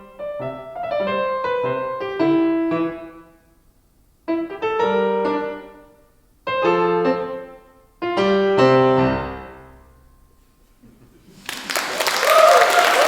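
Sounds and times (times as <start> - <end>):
slow piano chords: 0.0 - 3.5, 4.3 - 11.4.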